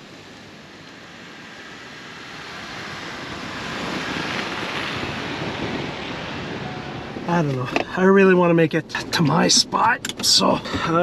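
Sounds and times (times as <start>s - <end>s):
tires churning snow: 0.0s - 11.0s.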